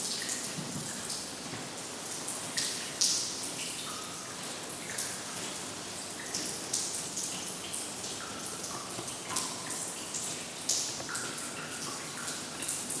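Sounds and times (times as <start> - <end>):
steady hiss of rain: 0.0 - 13.0.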